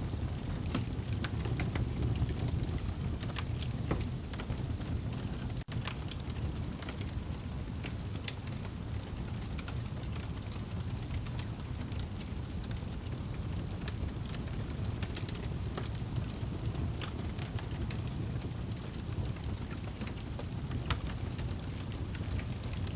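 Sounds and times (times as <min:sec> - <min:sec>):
fire crackling and popping: 0:00.0 - 0:22.9
rain rumble and hiss: 0:00.0 - 0:22.9.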